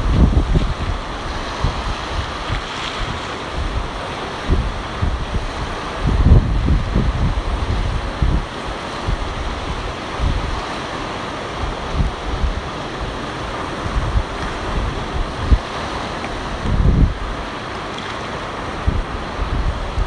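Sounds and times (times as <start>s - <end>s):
ocean surf washing ashore: 0.0s - 20.0s
wind buffeting microphone: 0.0s - 20.0s.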